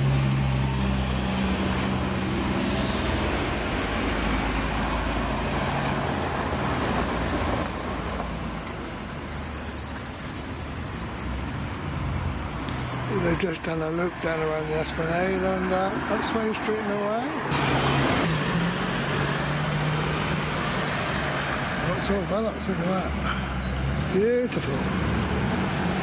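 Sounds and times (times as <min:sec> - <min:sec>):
cars driving past: 0:00.0 - 0:26.0.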